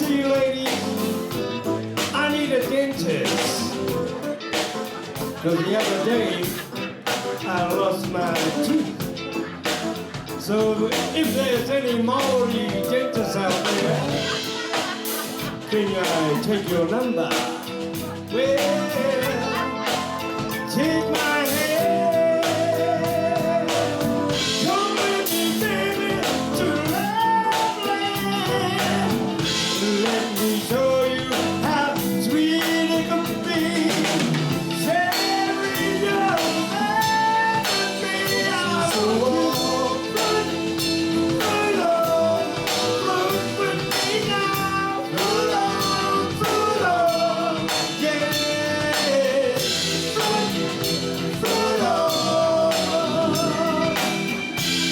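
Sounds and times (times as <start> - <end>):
drums: 0.0 - 54.9
guitar: 0.0 - 54.9
person singing: 0.0 - 54.9.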